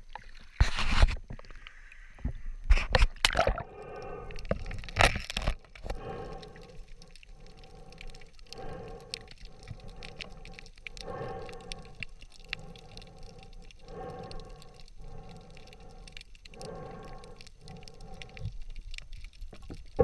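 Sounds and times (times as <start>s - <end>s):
faint underwater clicks: 0.0s - 20.0s.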